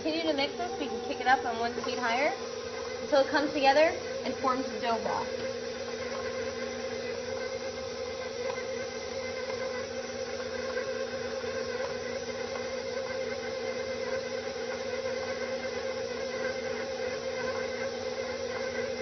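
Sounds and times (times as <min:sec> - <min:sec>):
stand mixer buzzing hum: 0:00.0 - 0:19.0.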